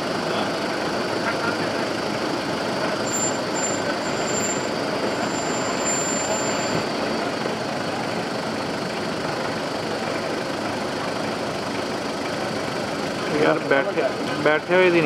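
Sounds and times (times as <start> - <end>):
helicopter engine running: 0.0 - 15.0.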